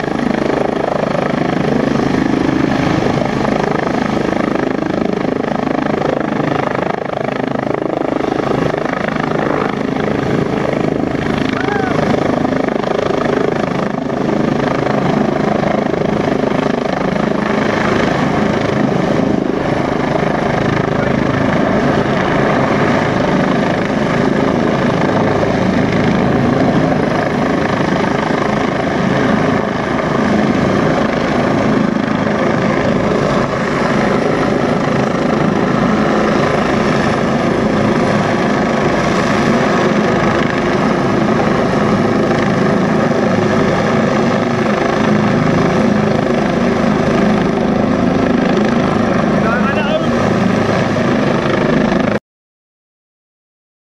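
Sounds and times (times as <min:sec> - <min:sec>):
helicopter rotor and turbine engine: 0:00.0 - 0:52.2.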